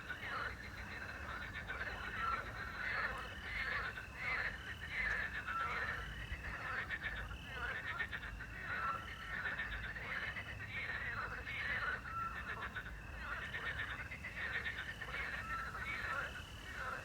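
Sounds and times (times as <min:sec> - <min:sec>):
crickets trilling: 0:00.0 - 0:17.0
frogs croaking: 0:00.0 - 0:17.0.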